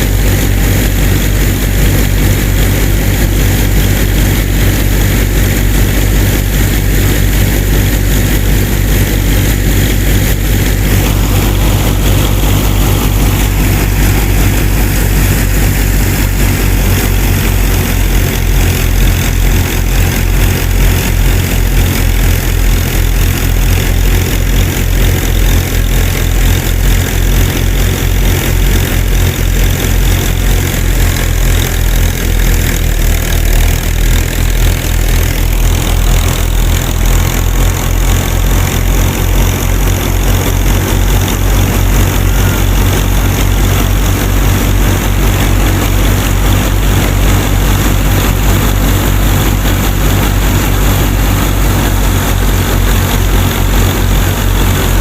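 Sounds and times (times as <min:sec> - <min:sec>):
fast low pulsing: 0:00.0 - 0:55.0.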